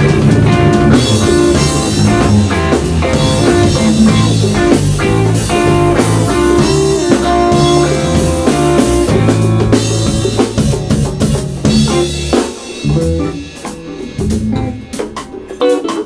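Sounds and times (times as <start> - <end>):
electric bass: 0.0 - 15.6
drum kit: 0.0 - 16.0
electric guitar: 0.0 - 16.0.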